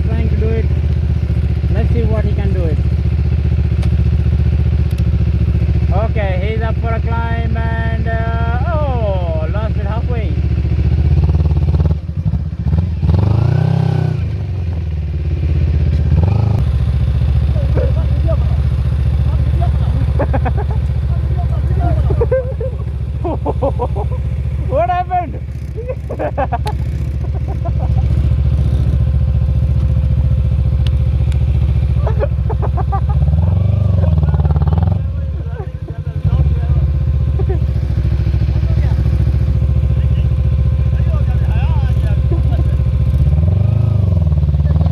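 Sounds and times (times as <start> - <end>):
go-kart engine revving: 0.0 - 44.9.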